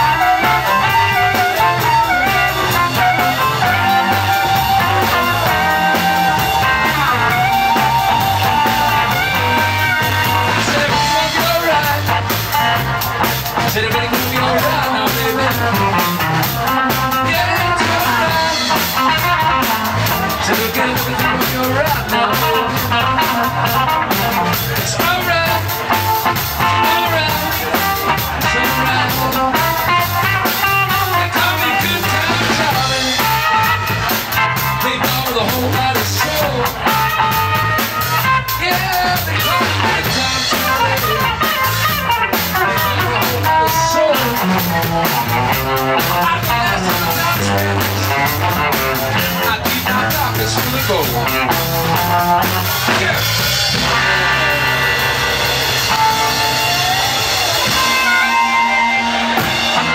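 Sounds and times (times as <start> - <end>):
man singing: 0.0 - 58.4
electric blues band playing: 0.0 - 59.9.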